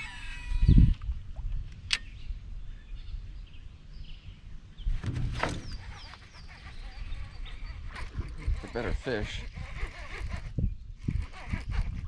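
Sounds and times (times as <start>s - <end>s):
birds chirping: 0.0s - 11.9s
wind rumble on microphone: 0.0s - 12.0s.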